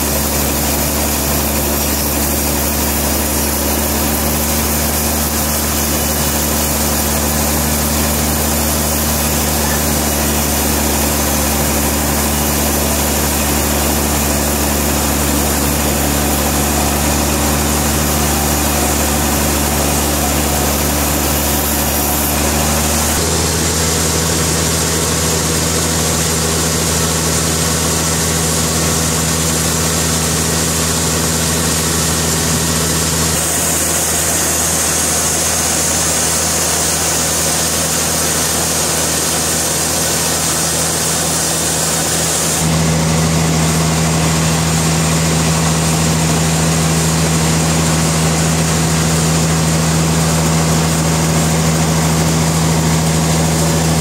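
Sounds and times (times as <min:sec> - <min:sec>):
sawmill engine droning: 0:00.0 - 0:54.0.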